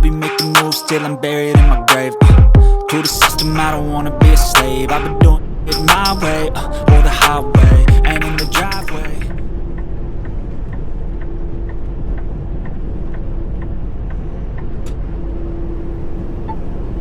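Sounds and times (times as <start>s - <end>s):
truck engine and road noise: 3.2s - 17.0s.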